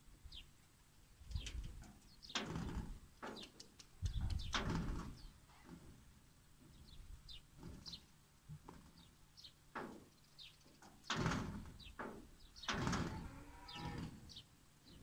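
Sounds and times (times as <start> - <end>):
birds chirping: 0.3 - 2.5, 3.2 - 8.2, 8.8 - 15.0.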